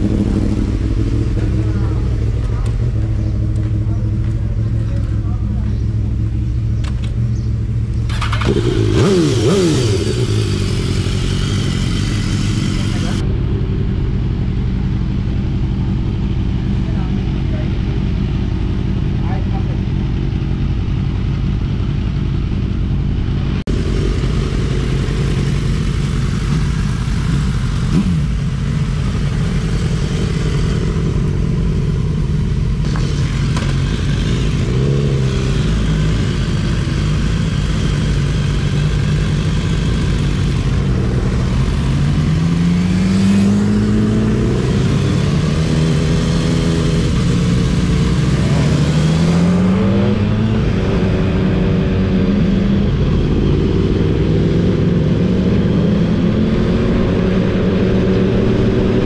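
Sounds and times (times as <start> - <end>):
motorcycle engines droning: 0.0 - 59.0.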